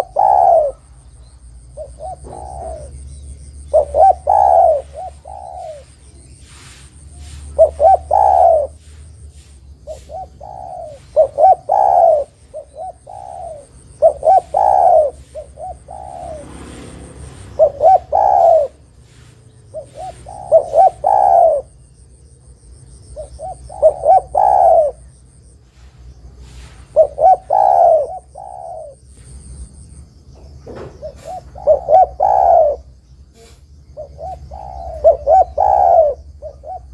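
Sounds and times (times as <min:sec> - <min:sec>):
dove cooing: 0:00.0 - 0:01.0, 0:01.7 - 0:21.8, 0:23.0 - 0:25.1, 0:25.8 - 0:29.5, 0:30.6 - 0:36.9.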